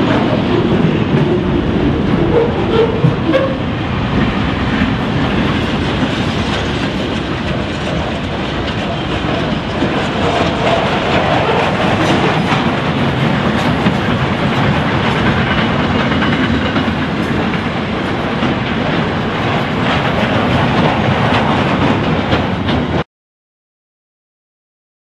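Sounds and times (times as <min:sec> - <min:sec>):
train wheels rumbling on rail: 0:00.0 - 0:23.0
wheels clicking over rail joints: 0:00.0 - 0:23.0.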